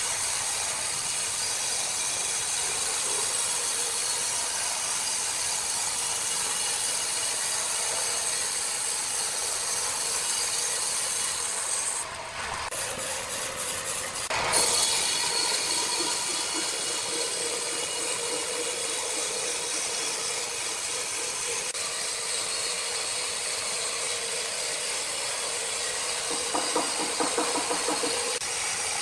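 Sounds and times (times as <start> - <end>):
saw cutting wood: 0.0 - 29.0.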